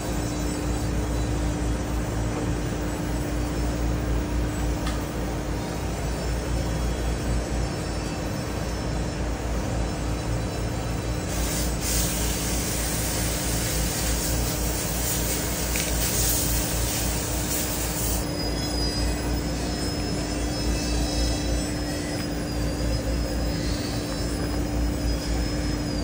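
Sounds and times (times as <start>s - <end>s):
faint high whistling tones: 0.0s - 26.0s
hum and hiss: 0.0s - 26.0s
machine drone: 0.0s - 26.0s.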